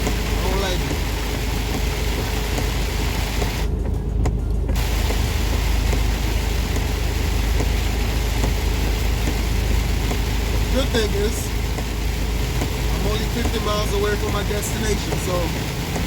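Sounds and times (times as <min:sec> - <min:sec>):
heavy rain and tyre spray: 0:00.0 - 0:16.0
truck engine drone: 0:00.0 - 0:16.0.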